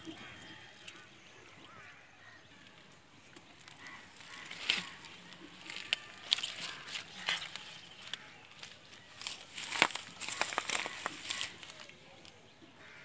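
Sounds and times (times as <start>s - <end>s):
faint distant calls: 0.0s - 13.0s.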